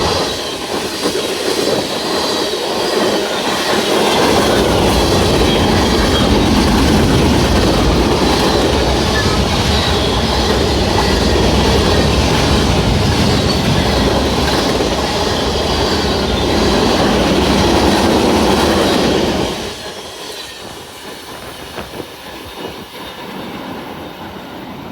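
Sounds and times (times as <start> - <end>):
freight train cars rolling past: 0.0 - 24.9
steel wheels on rail: 0.0 - 24.9.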